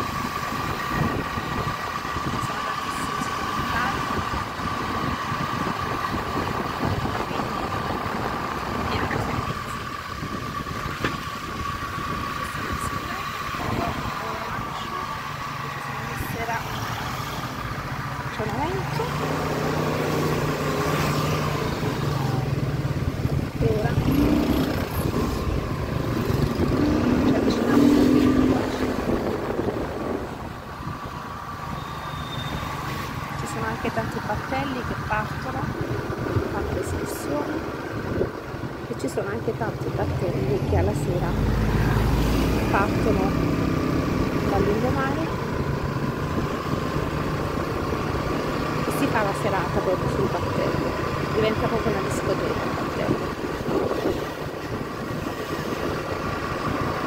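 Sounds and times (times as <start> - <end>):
passing traffic: 0.0 - 57.0
scooter engine rumbling hum: 0.0 - 57.0.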